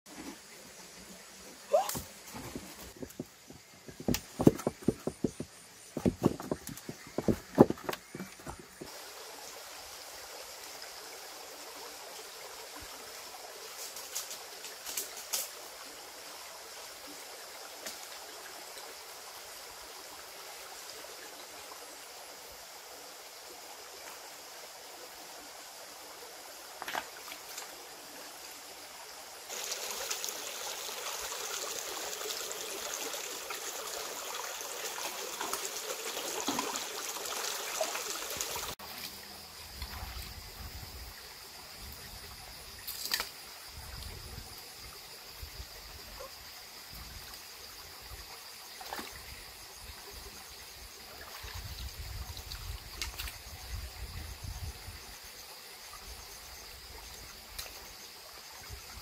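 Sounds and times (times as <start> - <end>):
stream trickling over stones: 0.1 - 59.0.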